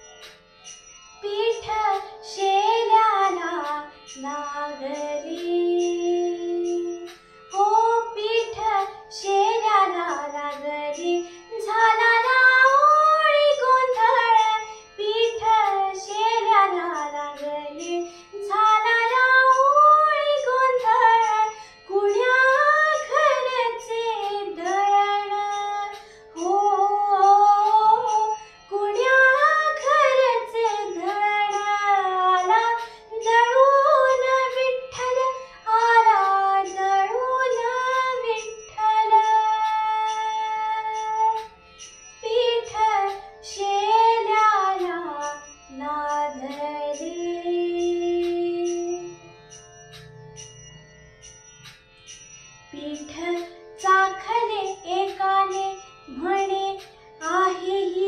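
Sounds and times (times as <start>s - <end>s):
girl singing devotional song: 1.2s - 41.6s, 42.2s - 49.3s, 52.7s - 58.0s.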